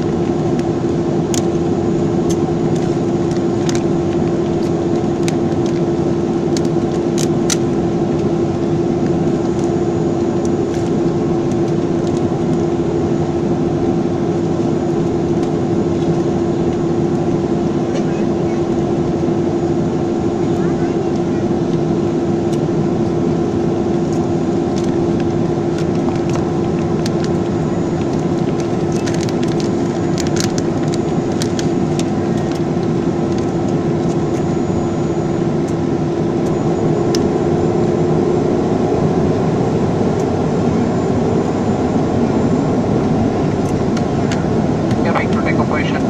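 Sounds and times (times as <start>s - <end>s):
jet engine cabin drone: 0.0s - 46.0s.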